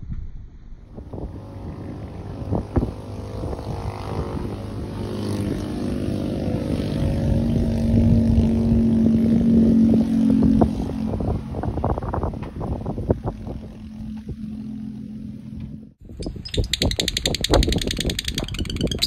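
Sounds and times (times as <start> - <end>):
wind on microphone: 0.0 - 14.6, 16.0 - 19.0
motor engine running: 0.9 - 19.0.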